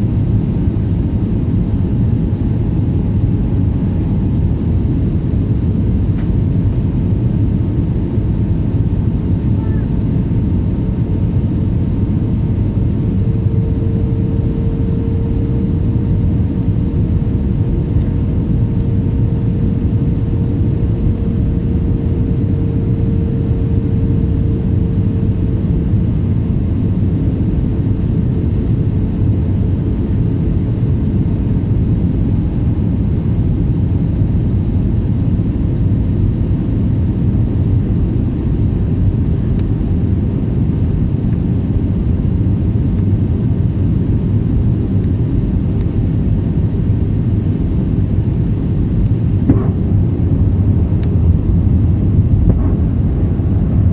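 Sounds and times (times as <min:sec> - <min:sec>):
airliner engines rumbling: 0:00.0 - 0:53.9
faint steady hum: 0:00.0 - 0:53.9.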